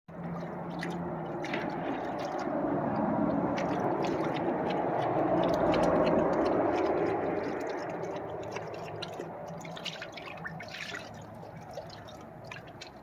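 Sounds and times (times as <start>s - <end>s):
dog lapping water: 0.1s - 13.0s
water splashing: 0.1s - 13.0s.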